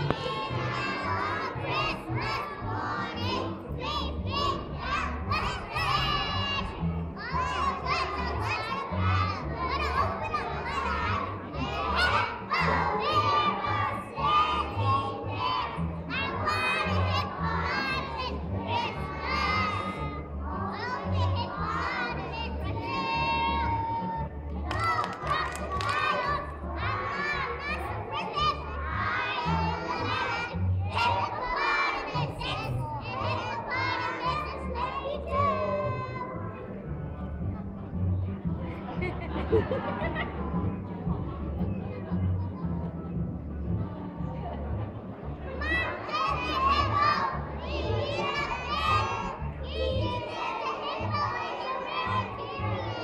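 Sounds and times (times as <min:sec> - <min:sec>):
young children singing: 0:00.0 - 0:36.6, 0:45.6 - 0:53.0.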